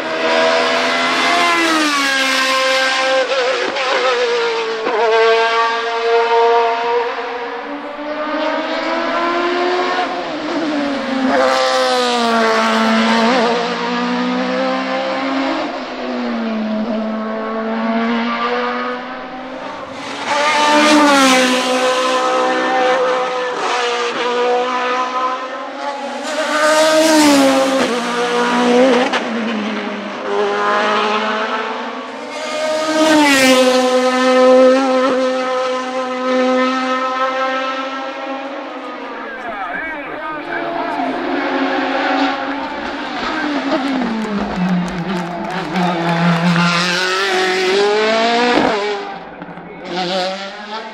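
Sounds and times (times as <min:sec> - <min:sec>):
race car engine at high revs: 0:00.0 - 0:50.9.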